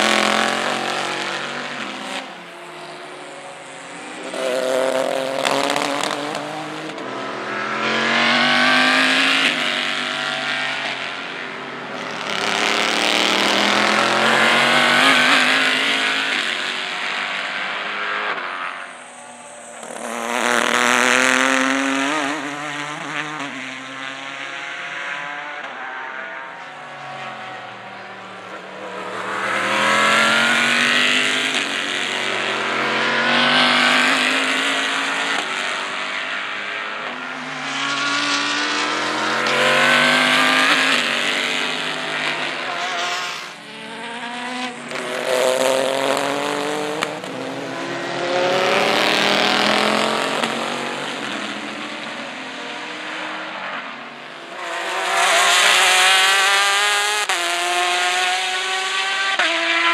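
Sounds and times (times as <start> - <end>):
race cars passing at speed: 0.0 - 59.9.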